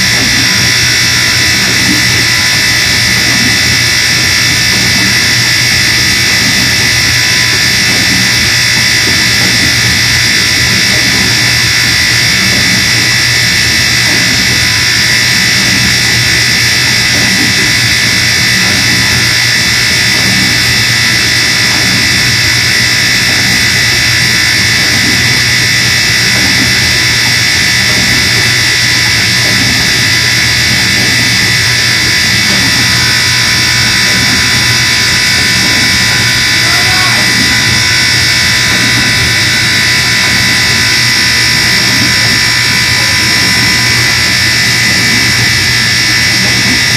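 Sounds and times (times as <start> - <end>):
dishwasher buzzing: 0.0 - 46.9.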